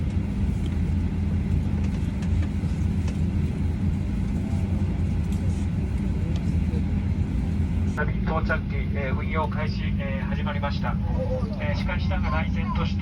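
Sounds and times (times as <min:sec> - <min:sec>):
airplane cabin hum: 0:00.0 - 0:13.0.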